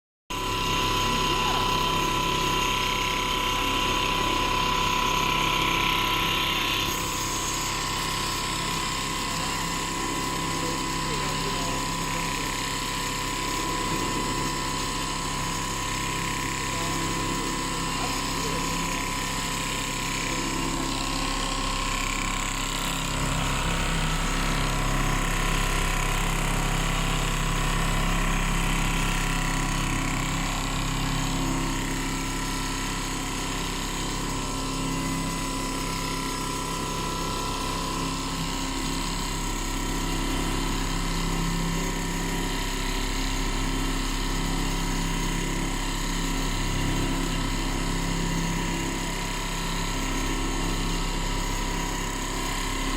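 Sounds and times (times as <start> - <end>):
quilting machine stitching: 0.3 - 52.9.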